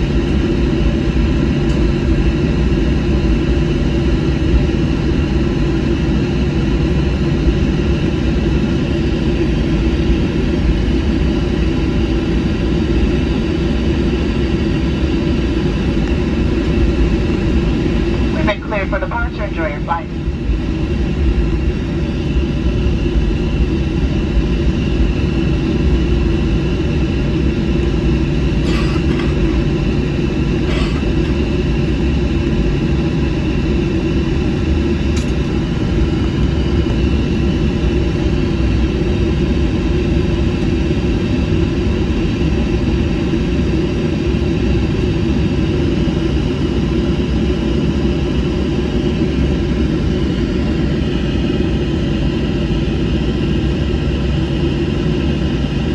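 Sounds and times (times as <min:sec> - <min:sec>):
jet engines rumbling: 0:00.0 - 0:55.9.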